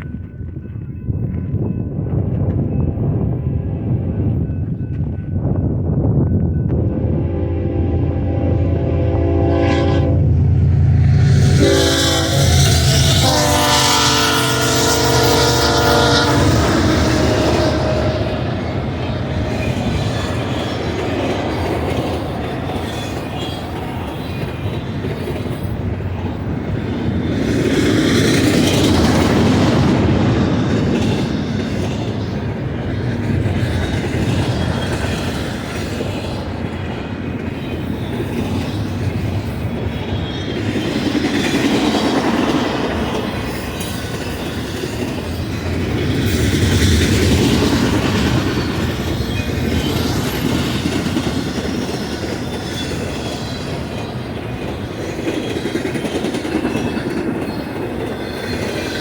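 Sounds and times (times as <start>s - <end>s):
freight train rumbling past: 0.0s - 59.0s
wheels clacking over rail joints: 11.6s - 59.0s.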